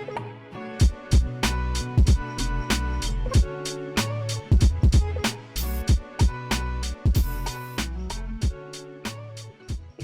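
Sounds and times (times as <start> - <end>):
hip-hop instrumental music: 0.0 - 10.0.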